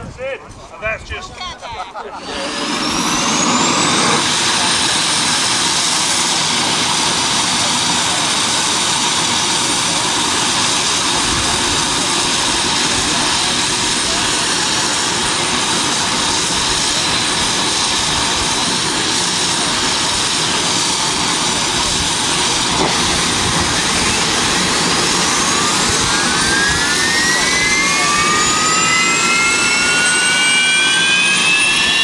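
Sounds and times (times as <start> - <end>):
high steady whine: 2.1 - 32.0
jet engine roaring: 2.1 - 32.0.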